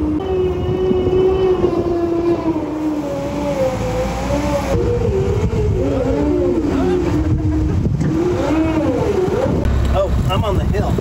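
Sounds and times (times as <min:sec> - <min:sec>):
vehicle engine whine and rumble: 0:00.0 - 0:11.0.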